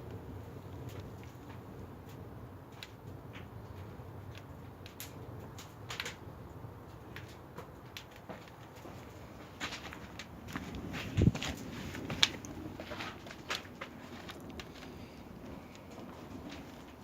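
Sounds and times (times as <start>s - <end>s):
firewood crackling and snapping: 0.0s - 17.0s
low rush of fire: 0.0s - 17.0s.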